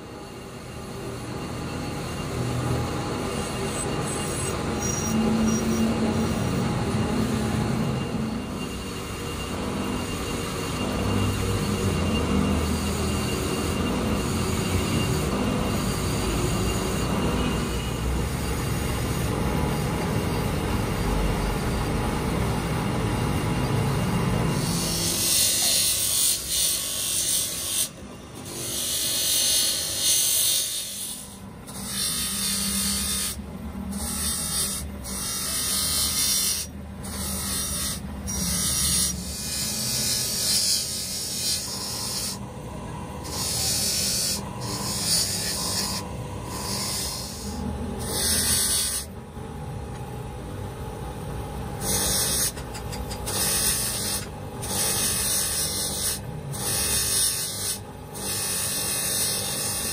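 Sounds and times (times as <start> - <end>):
metal rubbing on polishing wheel: 1.5 - 19.3, 24.5 - 42.4, 43.2 - 49.2, 51.8 - 59.9.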